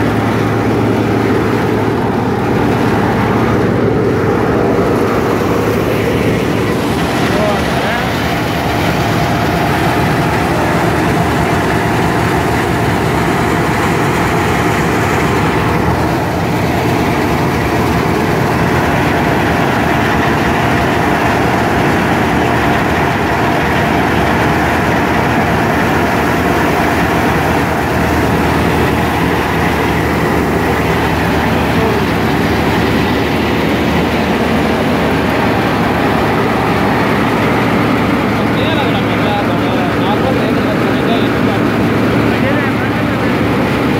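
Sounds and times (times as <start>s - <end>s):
tractor-driven thresher running: 0.0s - 43.9s.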